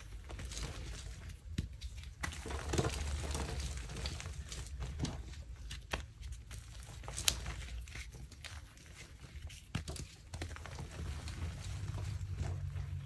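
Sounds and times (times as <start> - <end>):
chalk crumbling and crunching: 0.0 - 13.0.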